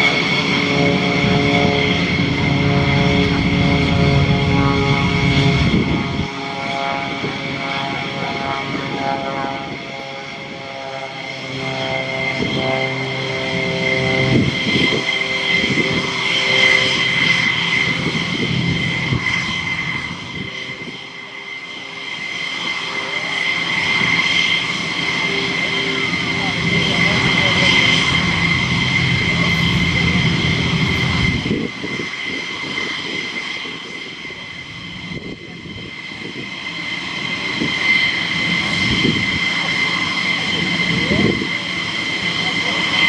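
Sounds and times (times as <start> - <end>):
aircraft engines whining: 0.0 - 43.0.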